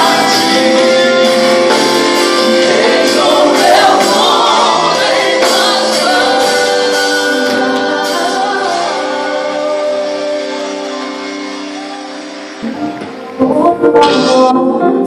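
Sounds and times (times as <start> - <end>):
gospel singing with band: 0.0 - 15.0.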